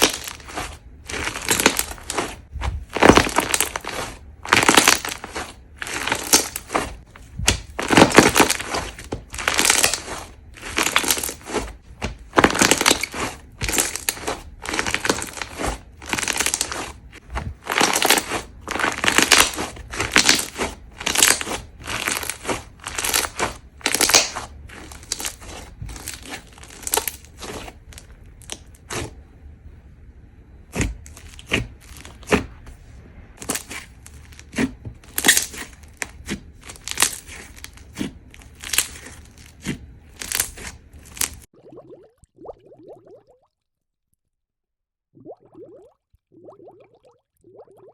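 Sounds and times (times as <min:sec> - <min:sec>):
crunchy slime crackling: 0:00.0 - 0:29.2, 0:30.7 - 0:32.6, 0:33.4 - 0:41.5.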